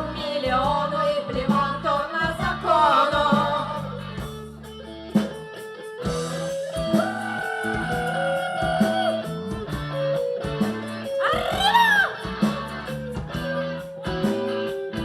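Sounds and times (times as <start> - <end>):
bass line: 0.0 - 5.4, 6.0 - 15.0
guitar: 0.0 - 15.0.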